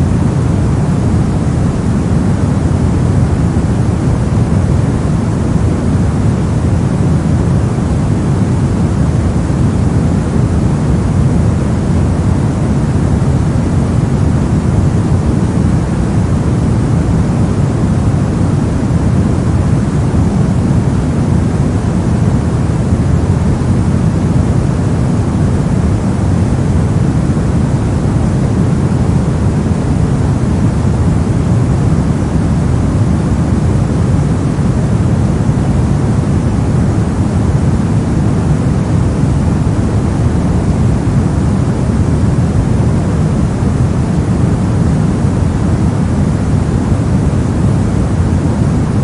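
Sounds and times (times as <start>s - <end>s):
steady low rumbling hiss: 0.0s - 49.0s.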